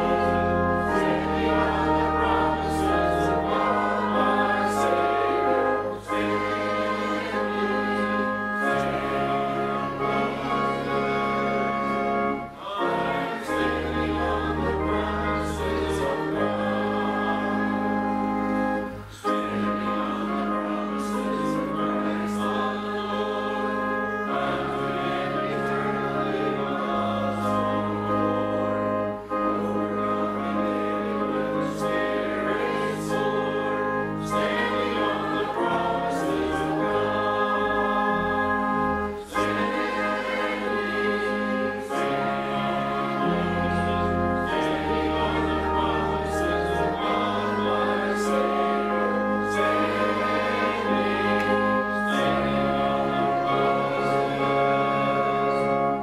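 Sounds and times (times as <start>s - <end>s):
choir singing a hymn: 0.0s - 56.0s
sustained accompaniment chords: 0.0s - 56.0s.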